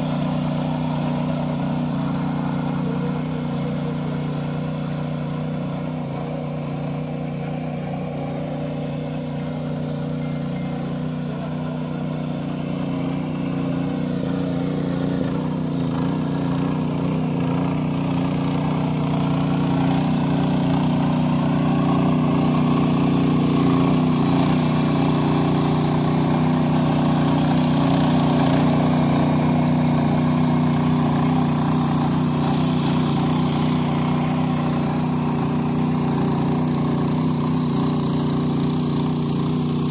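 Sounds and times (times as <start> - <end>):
power weeder engine running: 0.0 - 39.9
tines tilling soil: 0.0 - 39.9.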